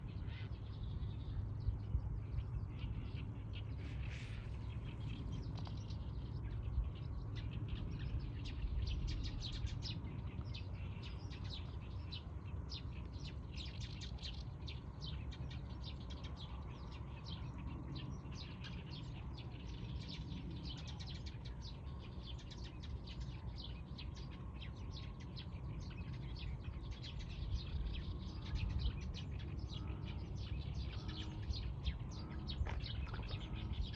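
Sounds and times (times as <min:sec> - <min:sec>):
small birds chirping: 0:00.0 - 0:33.9
steady low rumble: 0:00.0 - 0:33.9.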